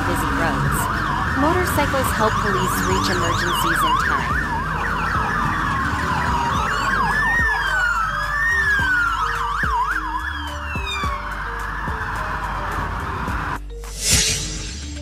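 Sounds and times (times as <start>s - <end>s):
police siren yelp: 0.0s - 13.6s
police siren wail: 0.0s - 13.7s
light background music: 0.0s - 15.0s.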